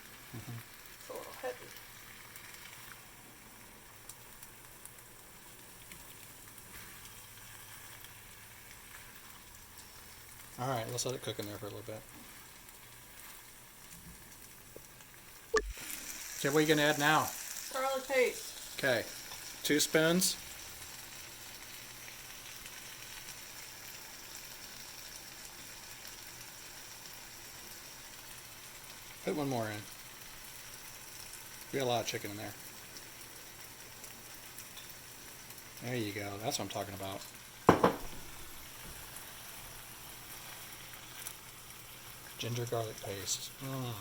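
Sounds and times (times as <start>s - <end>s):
chicken sizzling in a pan: 0.0s - 44.0s.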